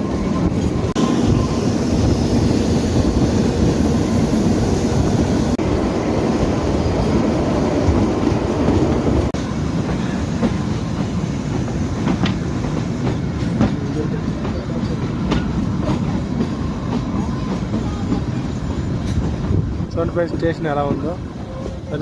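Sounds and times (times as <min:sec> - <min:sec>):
clickety-clack of rails: 0:00.0 - 0:22.0
train wheels rumbling on rails: 0:00.0 - 0:22.0.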